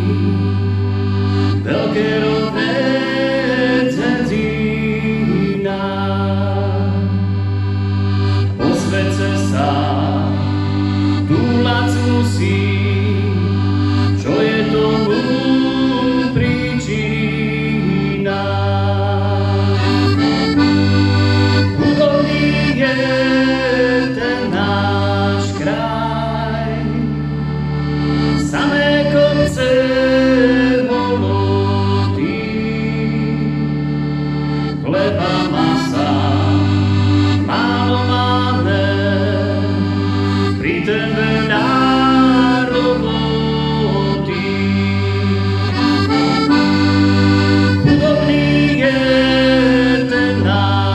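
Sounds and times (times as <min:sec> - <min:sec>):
piano accordion folk tune: 0:00.0 - 0:50.9.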